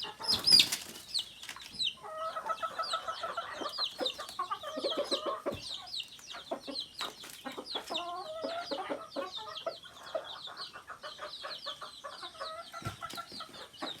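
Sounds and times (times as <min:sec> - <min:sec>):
chickens clucking: 0:00.0 - 0:14.0
chicks peeping: 0:00.0 - 0:14.0.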